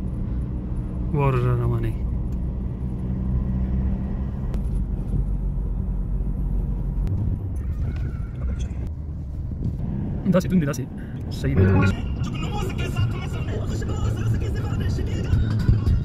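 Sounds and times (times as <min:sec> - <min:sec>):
car engine hum: 0:00.0 - 0:16.0
road rumble: 0:00.0 - 0:16.0.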